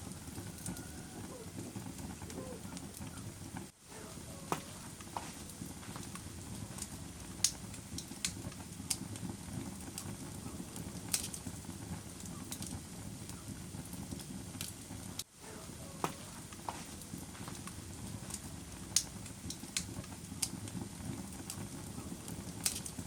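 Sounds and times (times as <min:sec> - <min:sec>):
fire pops and snaps: 0:00.0 - 0:03.8, 0:04.4 - 0:15.3, 0:15.9 - 0:23.0
low rumble of burning: 0:00.0 - 0:23.0.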